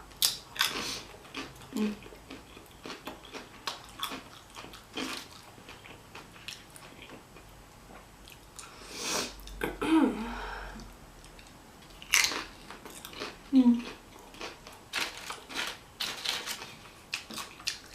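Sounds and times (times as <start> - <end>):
person chewing: 0.2 - 8.8, 11.2 - 17.9.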